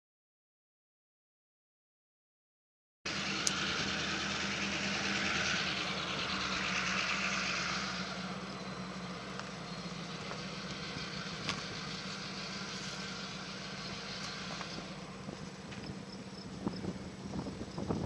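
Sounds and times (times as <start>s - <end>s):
low engine hum: 3.1s - 18.0s.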